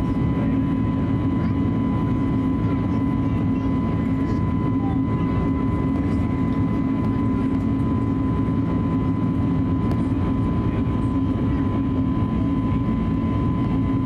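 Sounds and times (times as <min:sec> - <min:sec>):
aircraft cabin drone: 0:00.0 - 0:14.0.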